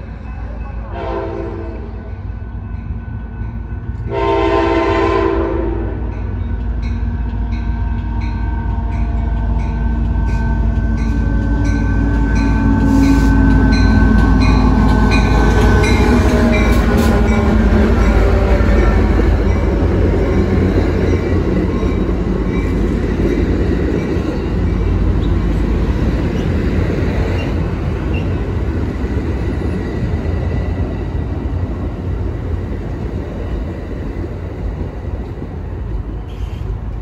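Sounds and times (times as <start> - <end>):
train rumbling past: 0.0 - 37.0.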